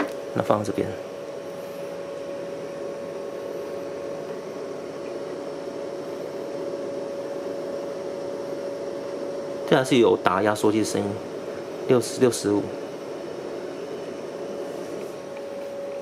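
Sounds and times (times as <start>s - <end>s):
fridge compressor humming: 0.0s - 16.0s.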